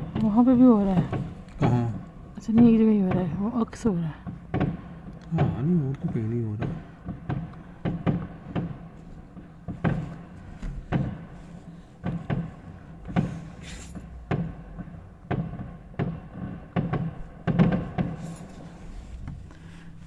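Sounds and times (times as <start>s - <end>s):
fireworks bangs with echo: 0.0s - 20.0s.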